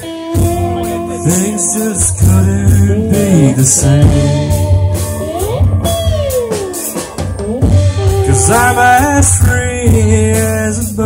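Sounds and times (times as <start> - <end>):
guitar note bending: 0.0 - 10.4
live rock band playing: 0.0 - 11.0.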